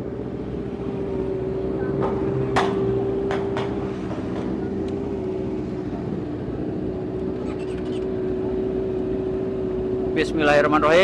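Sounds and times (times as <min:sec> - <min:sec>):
motorcycles idling: 0:00.0 - 0:11.0.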